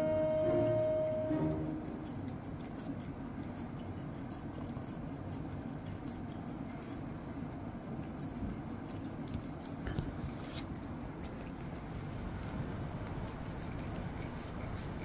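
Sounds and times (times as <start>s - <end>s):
cat chewing corn: 0.4s - 15.0s.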